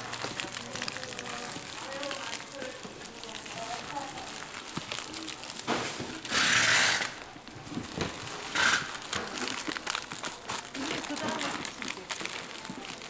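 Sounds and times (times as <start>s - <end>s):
paper wrappers rustling: 0.0s - 13.0s.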